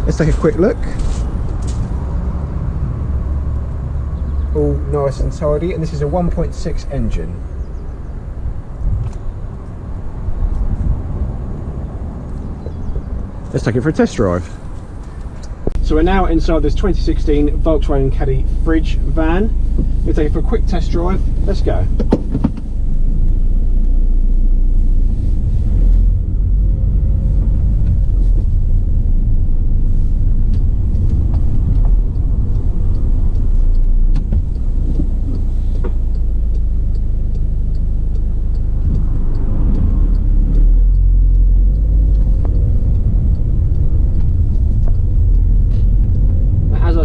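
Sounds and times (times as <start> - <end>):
road noise: 0.0 - 47.0
van engine rumbling: 0.0 - 47.0.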